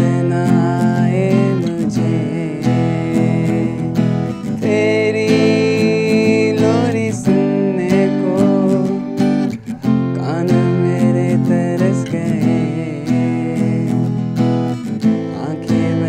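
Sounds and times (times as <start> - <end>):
man singing: 0.0 - 16.0
strummed acoustic guitar: 0.0 - 16.0.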